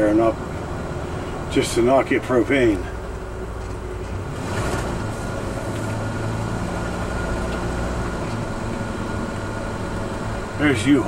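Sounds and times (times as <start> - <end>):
motorhome engine running: 0.0 - 11.0
road noise: 0.0 - 11.0.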